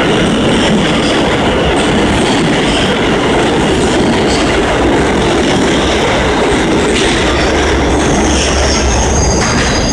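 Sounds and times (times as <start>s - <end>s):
subway train wheels rumbling: 0.0s - 9.9s
wheels clacking over rail joints: 0.0s - 9.9s.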